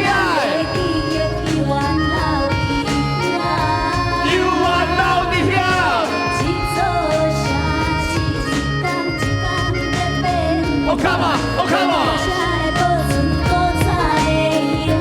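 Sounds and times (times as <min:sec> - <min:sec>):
music with sliding melody: 0:00.0 - 0:15.0.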